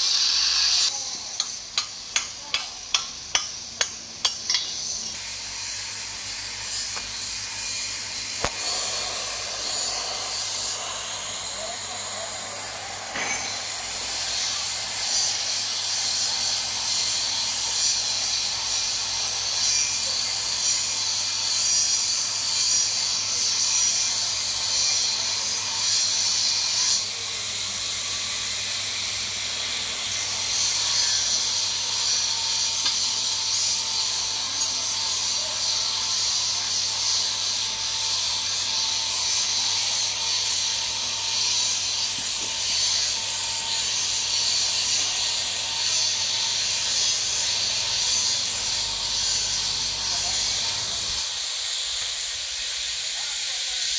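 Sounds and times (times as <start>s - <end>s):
welding arc hissing: 0.0s - 53.9s.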